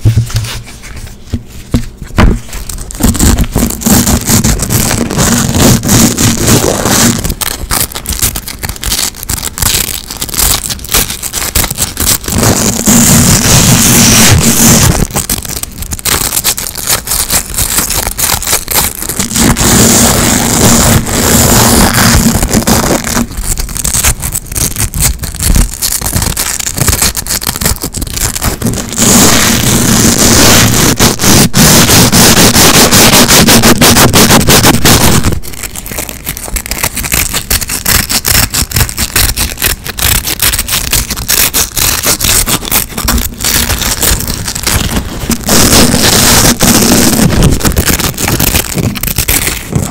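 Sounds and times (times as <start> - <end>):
hook-and-loop straps ripping: 2.2 - 49.9.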